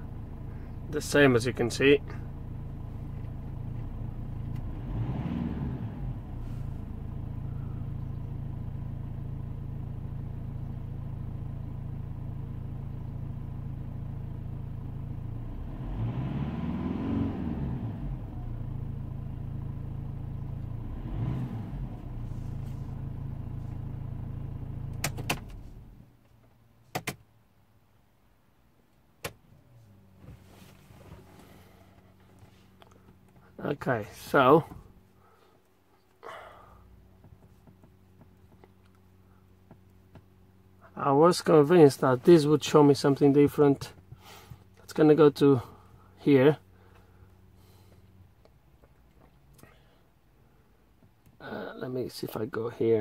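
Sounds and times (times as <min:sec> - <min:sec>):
diesel engine idling and revving: 0:00.0 - 0:26.1, 0:29.2 - 0:53.0.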